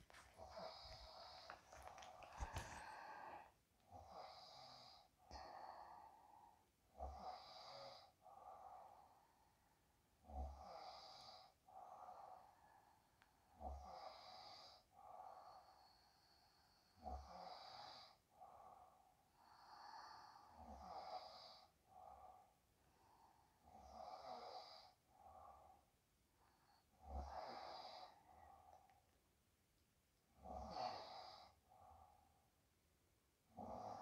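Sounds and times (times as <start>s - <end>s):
faint snoring: 0.0s - 29.0s, 30.3s - 32.5s, 33.5s - 34.0s.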